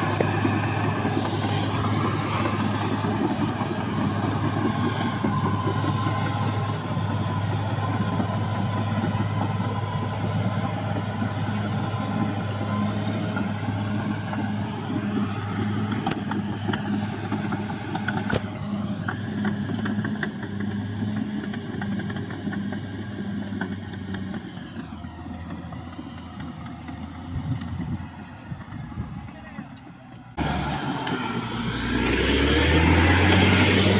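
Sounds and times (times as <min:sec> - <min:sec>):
bulldozer diesel engine droning: 0:00.0 - 0:33.9.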